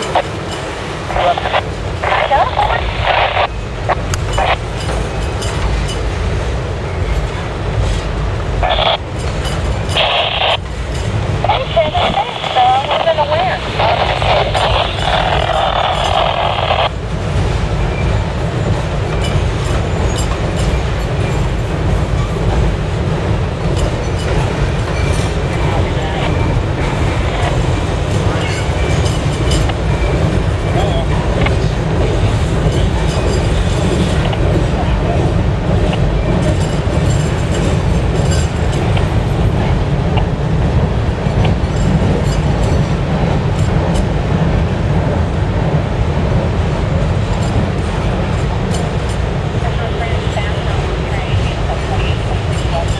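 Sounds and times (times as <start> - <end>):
train wheels rumbling: 0.0 - 52.9.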